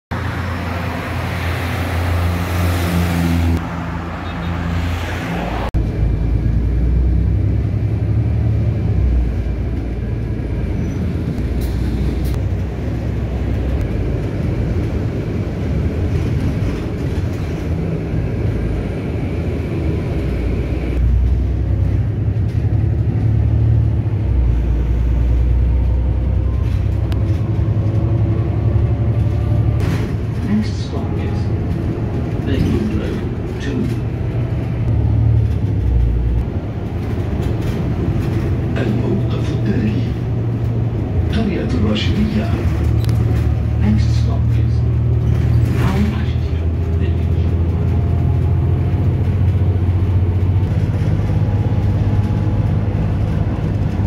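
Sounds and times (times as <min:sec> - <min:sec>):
bus engine and road rumble: 0:00.1 - 0:54.0.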